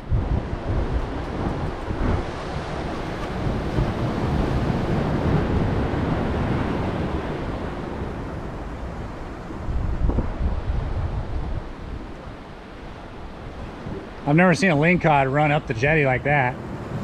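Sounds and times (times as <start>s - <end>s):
ocean surf against rocks: 0.0s - 17.0s
wind buffeting microphone: 0.0s - 17.0s.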